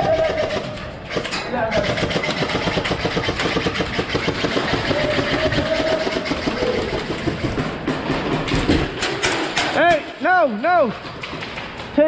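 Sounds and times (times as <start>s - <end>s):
airsoft rifles firing on full auto: 0.0s - 9.8s.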